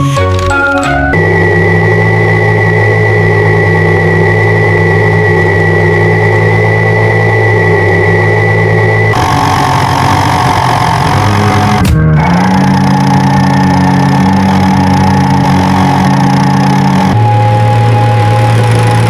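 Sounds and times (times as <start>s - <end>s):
engine idling with whine: 1.1s - 19.0s.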